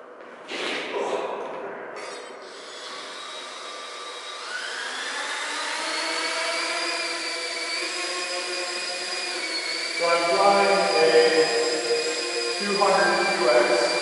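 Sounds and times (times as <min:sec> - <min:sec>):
drone propellers whining: 0:02.0 - 0:14.0.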